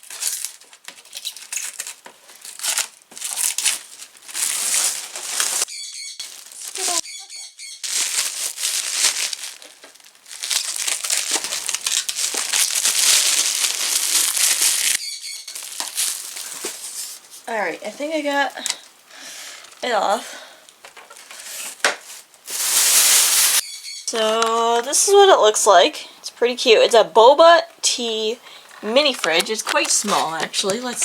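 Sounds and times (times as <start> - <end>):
plastic wrapping crinkling: 0.0 - 19.8, 20.7 - 25.8, 28.0 - 31.0.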